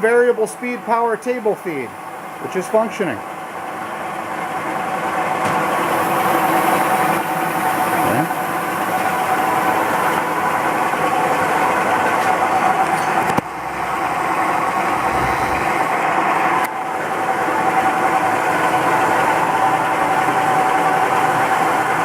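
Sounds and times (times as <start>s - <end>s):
milling machine whine: 3.2s - 22.0s.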